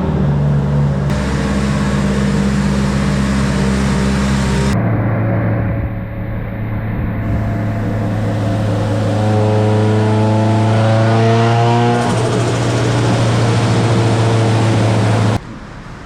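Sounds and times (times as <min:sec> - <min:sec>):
car engine on a dyno: 0:00.0 - 0:16.0.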